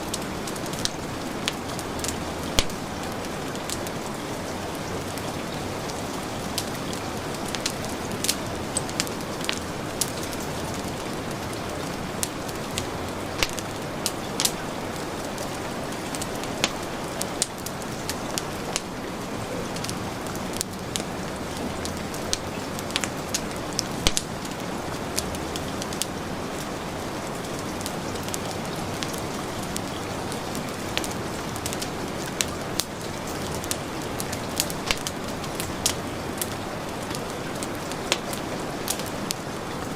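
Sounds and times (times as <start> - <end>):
heavy rain hissing: 0.0 - 39.9
wood fire crackling and popping: 0.0 - 39.9.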